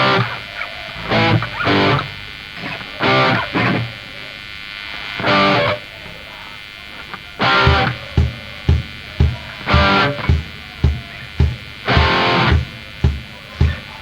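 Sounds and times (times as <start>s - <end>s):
distorted electric guitar: 0.0s - 14.0s.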